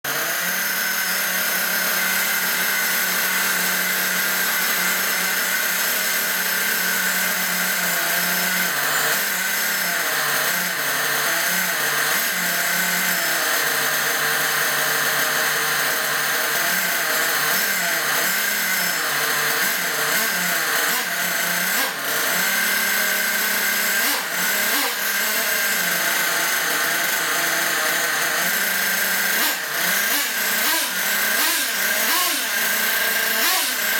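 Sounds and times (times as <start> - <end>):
small nitro engine revving: 0.0 - 33.9.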